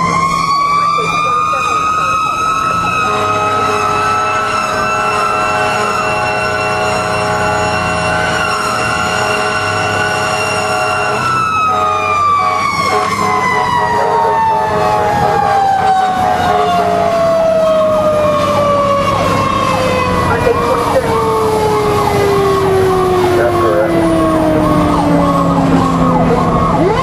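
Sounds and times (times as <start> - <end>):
fire engine siren winding down: 0.0 - 27.0
truck engine and road rumble: 0.0 - 27.0.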